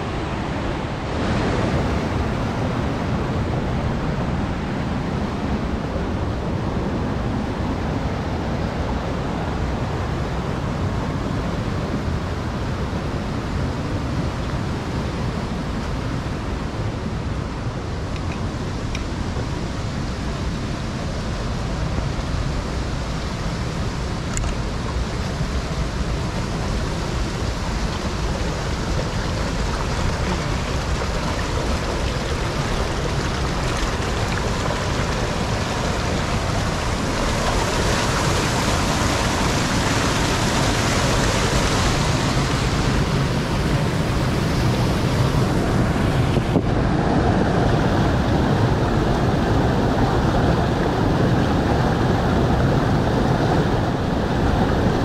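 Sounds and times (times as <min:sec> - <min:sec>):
creek rushing over boulders: 0:00.0 - 0:55.0.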